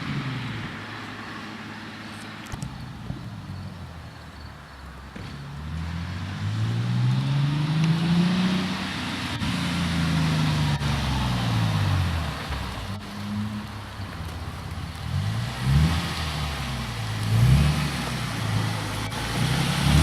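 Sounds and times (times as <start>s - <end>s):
car exhaust accelerating: 0.0s - 20.0s.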